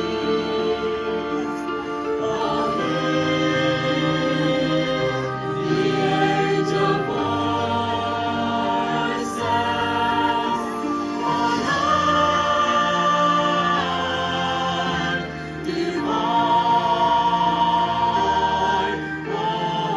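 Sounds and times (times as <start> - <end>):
choir singing sustained chords: 0.0 - 19.9.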